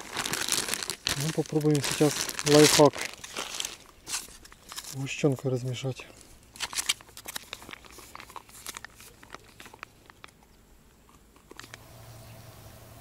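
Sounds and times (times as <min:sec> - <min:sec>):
plastic pouch crinkling: 0:00.0 - 0:10.5.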